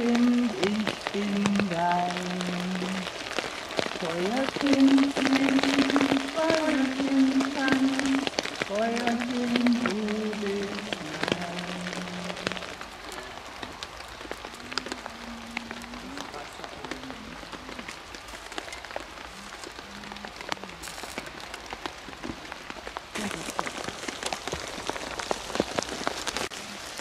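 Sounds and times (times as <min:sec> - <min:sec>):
rain on umbrellas: 0:00.0 - 0:27.0.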